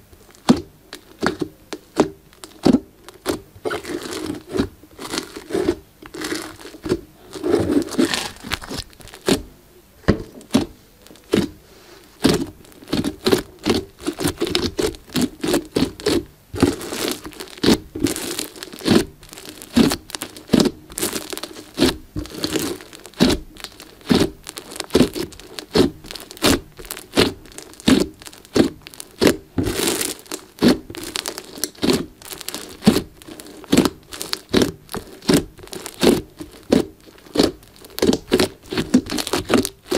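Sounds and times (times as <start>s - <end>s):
slime popping and crackling: 0.0s - 9.5s, 10.2s - 39.9s.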